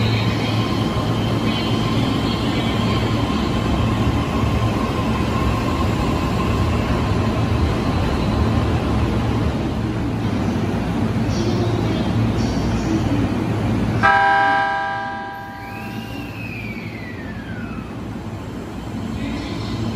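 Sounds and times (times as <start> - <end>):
electric train motors and wheels: 0.0 - 19.9.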